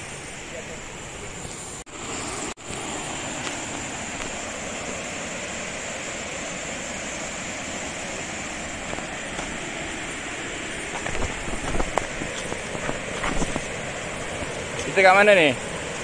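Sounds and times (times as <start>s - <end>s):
river rushing over boulders: 0.4s - 16.0s.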